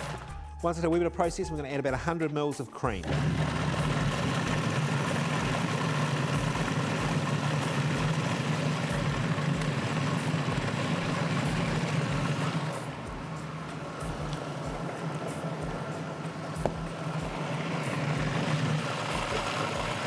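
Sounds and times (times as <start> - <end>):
food processor motor running: 0.0 - 0.3, 3.0 - 20.0.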